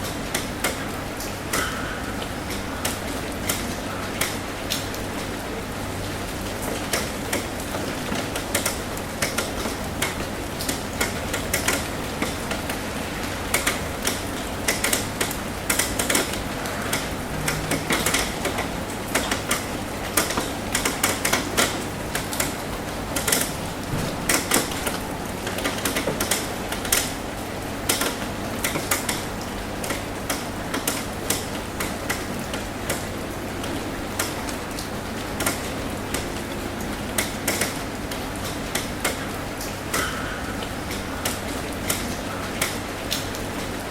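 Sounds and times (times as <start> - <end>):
rain on metal roof: 0.0 - 43.9.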